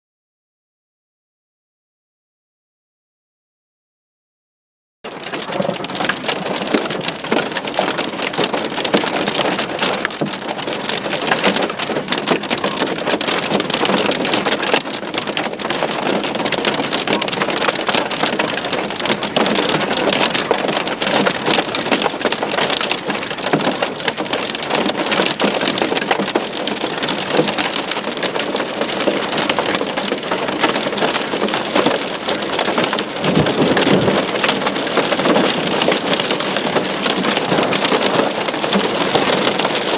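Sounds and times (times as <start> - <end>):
hail and rain clattering: 5.1 - 39.9.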